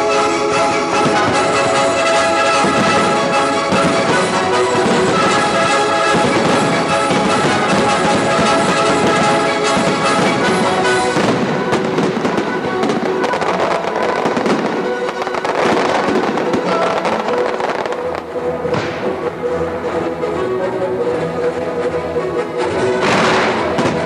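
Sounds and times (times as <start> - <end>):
fireworks bursting and crackling: 0.0 - 19.9, 22.7 - 24.0
orchestral music: 0.0 - 24.0.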